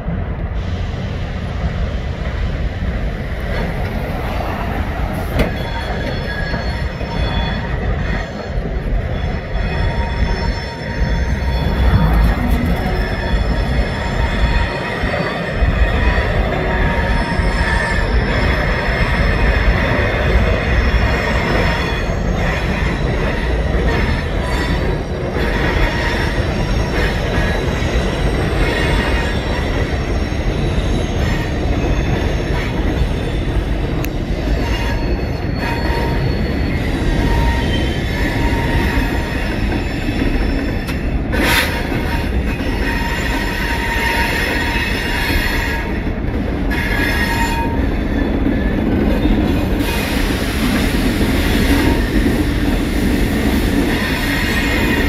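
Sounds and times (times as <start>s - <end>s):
freight train rumble: 0.0s - 55.0s
high wheel squeal: 3.6s - 46.1s, 46.7s - 55.0s.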